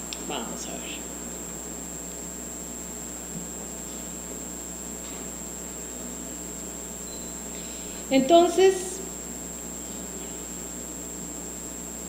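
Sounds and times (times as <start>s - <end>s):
high-pitched whine: 0.0s - 12.0s
low electrical hum: 0.0s - 12.0s.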